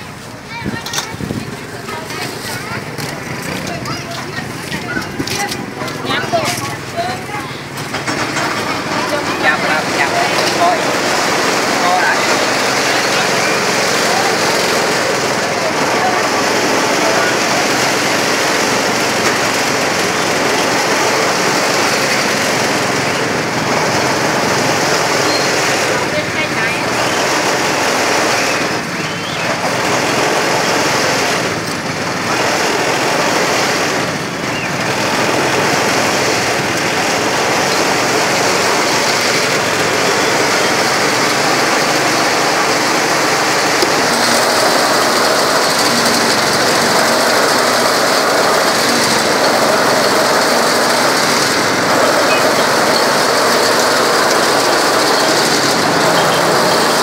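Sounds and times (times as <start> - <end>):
faint voices: 0.0 - 57.0
motor traffic: 0.0 - 57.0.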